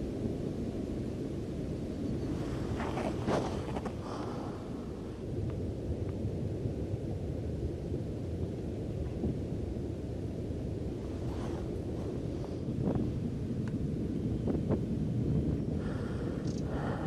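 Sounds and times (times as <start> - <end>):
volcanic rumbling: 0.0 - 17.0.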